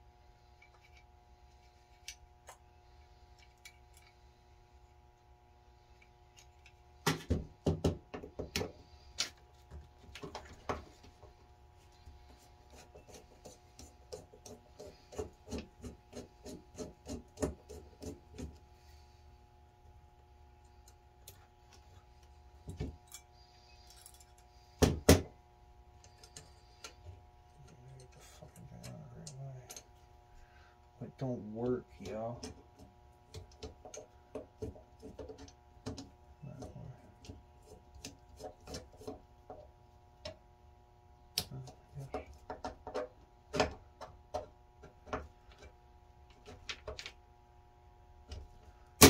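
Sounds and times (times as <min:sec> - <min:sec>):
faint hum: 0:00.0 - 0:49.0.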